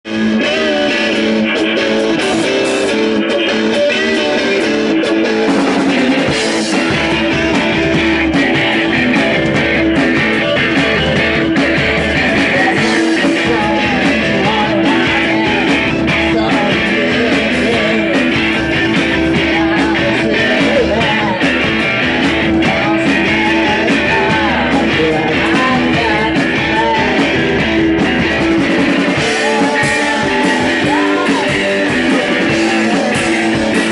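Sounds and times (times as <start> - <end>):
electric guitar: 0.0 - 33.9
rock band playing live: 0.0 - 33.9.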